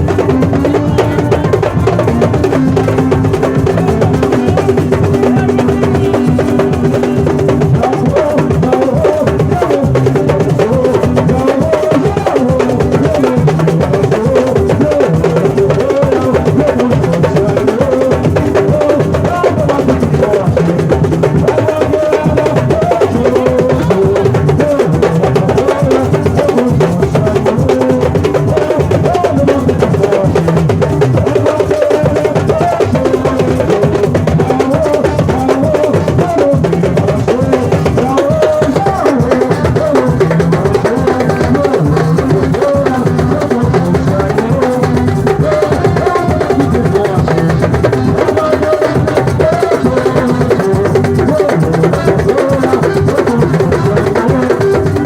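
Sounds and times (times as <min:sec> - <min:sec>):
percussion ensemble drum groove: 0:00.0 - 0:55.0.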